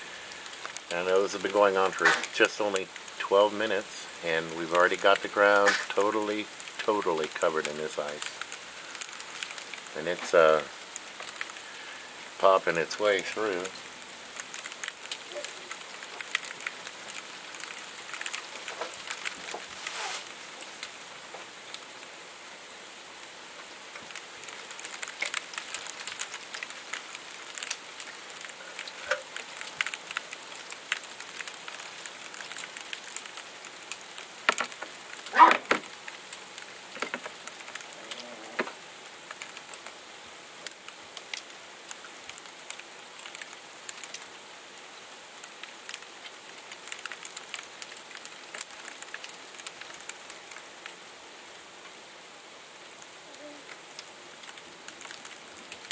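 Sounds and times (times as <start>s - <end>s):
faint hiss: 0.0s - 55.9s
ice pellets ticking on window: 0.1s - 19.9s, 23.9s - 40.0s, 40.6s - 44.4s, 45.4s - 51.0s, 53.7s - 55.9s.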